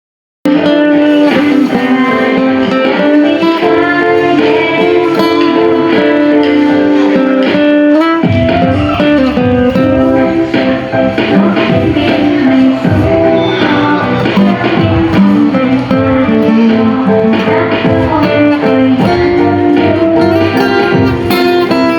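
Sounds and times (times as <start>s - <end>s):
bass line: 0.5s - 21.9s
electric guitar music: 0.5s - 21.9s.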